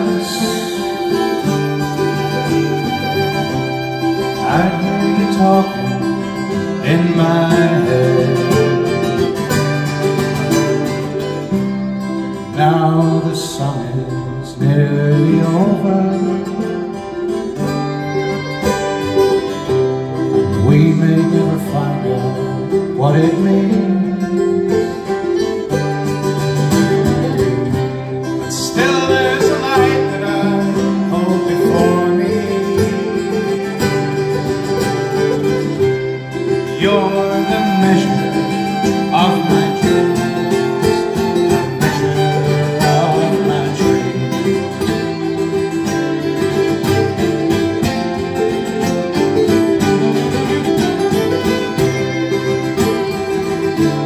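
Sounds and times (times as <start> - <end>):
fiddle: 0.0 - 54.0
strummed acoustic guitars: 0.0 - 54.0.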